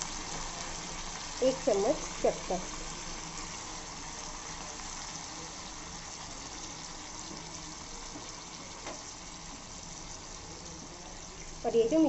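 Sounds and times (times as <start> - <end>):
liquid hissing in a frying pan: 0.0 - 12.0.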